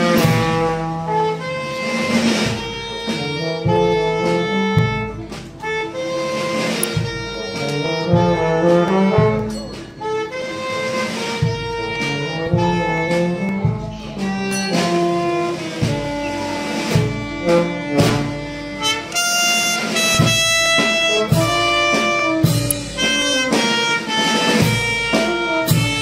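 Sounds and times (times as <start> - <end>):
bass drum beating: 0.0 - 26.0
brass band playing slow march: 0.0 - 26.0.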